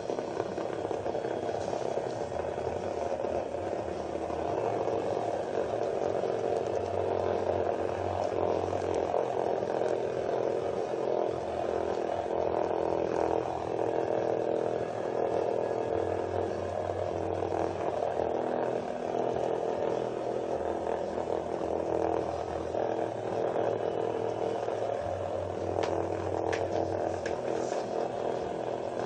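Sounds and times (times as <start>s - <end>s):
vibrating toys buzzing: 0.0s - 29.0s.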